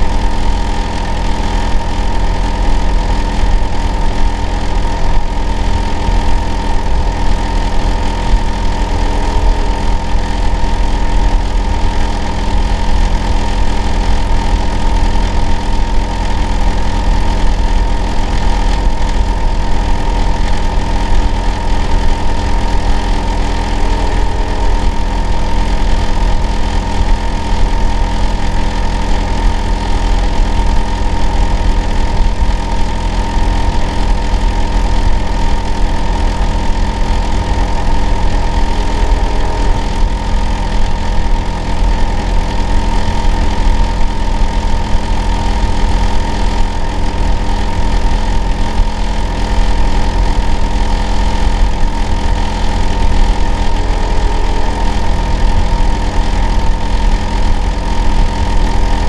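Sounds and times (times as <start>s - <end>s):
steady whine: 0.0s - 59.0s.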